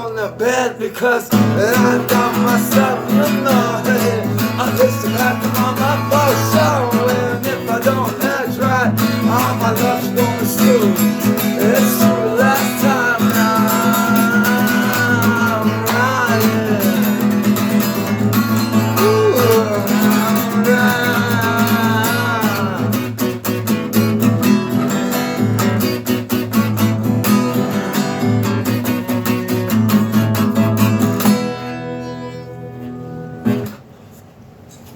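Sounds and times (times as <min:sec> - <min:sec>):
acoustic guitar strumming chords: 0:00.0 - 0:34.2
bending guitar lead melody: 0:01.4 - 0:33.8.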